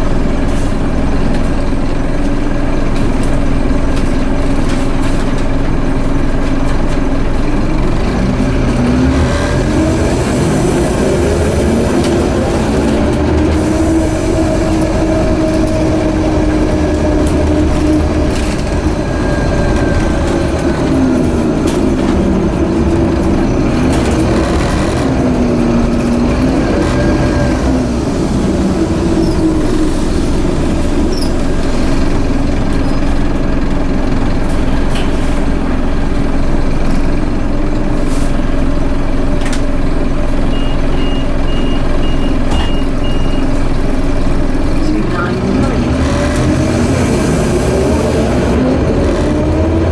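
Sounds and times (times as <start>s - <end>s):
diesel engine rumble: 0.0s - 49.9s.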